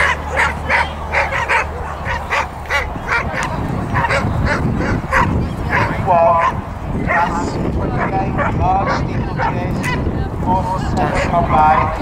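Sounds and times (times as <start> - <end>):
dog barking: 0.0 - 7.3, 8.0 - 10.0, 11.1 - 12.0.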